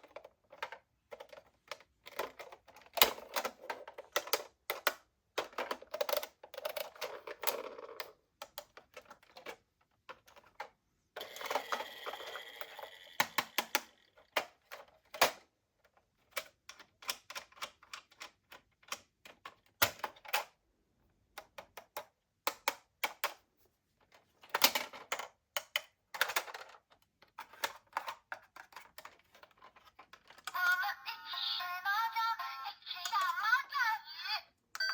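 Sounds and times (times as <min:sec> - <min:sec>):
plastic toy cars clicking: 0:00.0 - 0:20.6, 0:21.3 - 0:23.4, 0:24.0 - 0:34.9.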